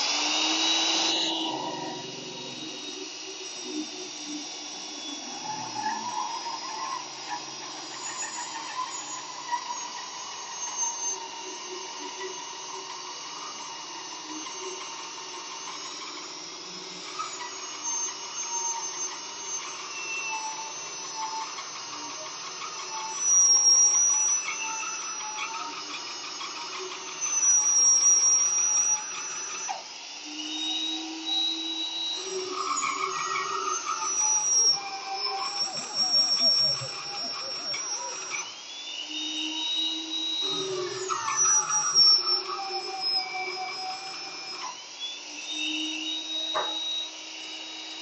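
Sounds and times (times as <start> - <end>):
drill motor whine cutting steel: 0.0 - 48.0.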